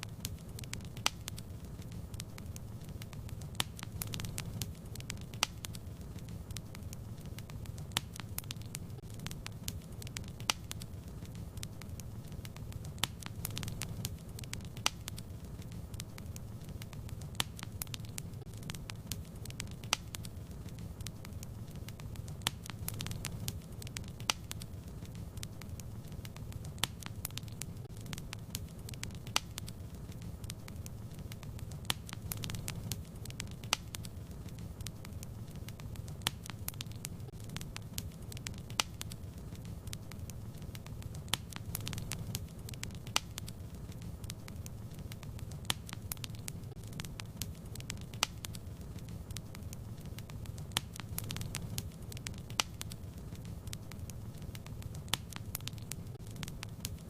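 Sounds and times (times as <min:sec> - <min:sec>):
fire crackling and popping: 0:00.0 - 0:57.0
low rumble of flame: 0:00.0 - 0:57.0.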